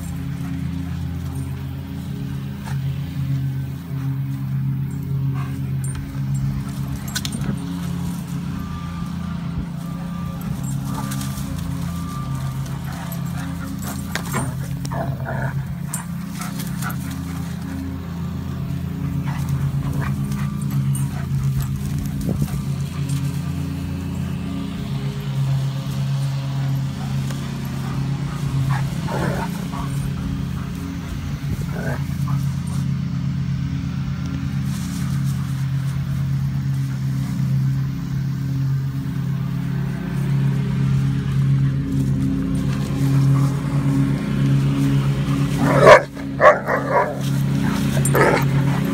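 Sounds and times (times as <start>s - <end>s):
lawn mower engine running: 0.0s - 48.9s.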